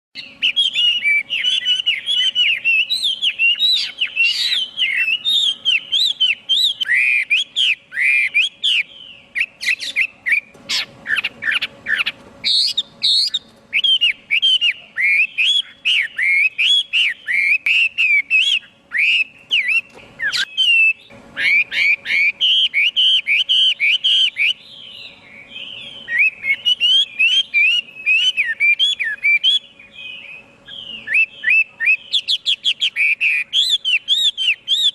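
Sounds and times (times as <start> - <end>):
bird singing whistled notes: 0.2 - 34.9.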